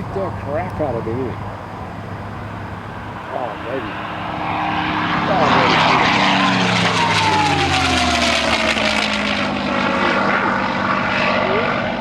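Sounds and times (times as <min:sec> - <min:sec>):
propeller aircraft flying past: 0:00.0 - 0:12.0.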